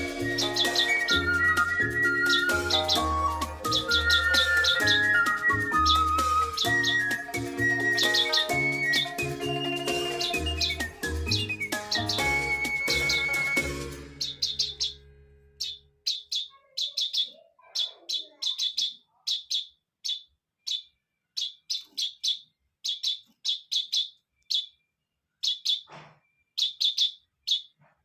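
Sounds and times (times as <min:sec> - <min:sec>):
fledgling bird begging calls: 0:00.0 - 0:15.0, 0:15.6 - 0:24.7.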